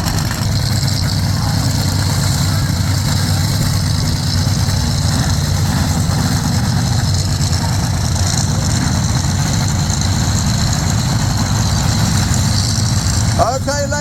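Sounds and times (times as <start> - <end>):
truck engines idling loudly: 0.0 - 14.0.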